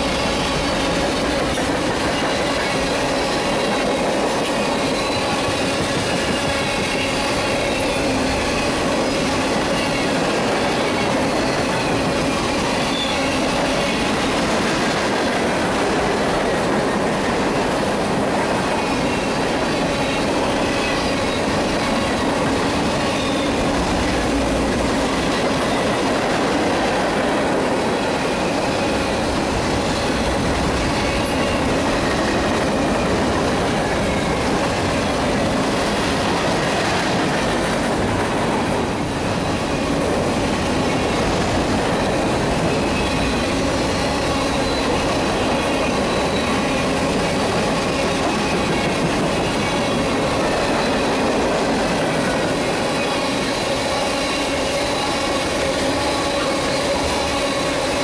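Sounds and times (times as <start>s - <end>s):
steel wheels on rail: 0.0s - 58.0s.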